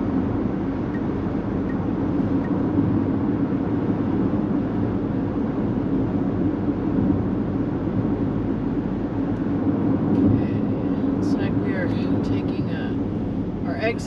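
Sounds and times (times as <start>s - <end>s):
car road noise at highway speed: 0.0s - 14.0s.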